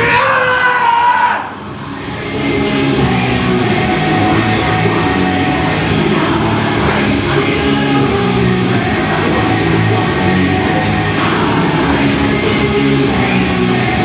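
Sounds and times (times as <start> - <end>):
heavy metal music: 0.0 - 14.0.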